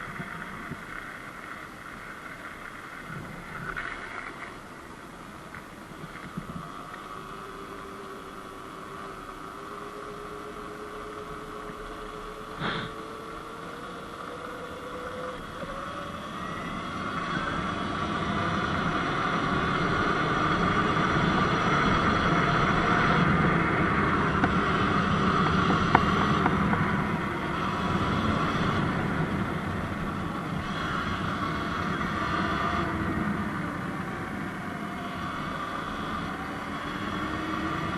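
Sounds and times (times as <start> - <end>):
wind and tyre noise: 0.0 - 37.9
electric dirt bike motor whine: 5.9 - 37.9.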